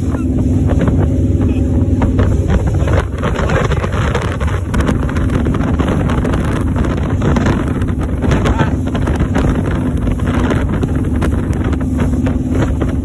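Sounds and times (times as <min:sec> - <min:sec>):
boat engine drone: 0:00.0 - 0:13.0
rushing water: 0:00.0 - 0:13.0
wind buffeting microphone: 0:00.0 - 0:13.0.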